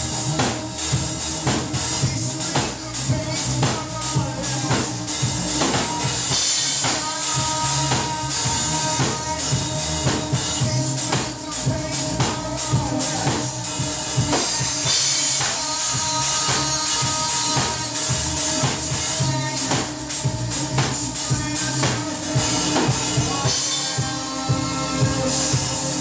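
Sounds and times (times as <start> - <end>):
drum kit with cymbals: 0.0 - 26.0
electric guitar: 0.0 - 26.0
keyboard: 0.0 - 26.0
man singing: 0.0 - 26.0.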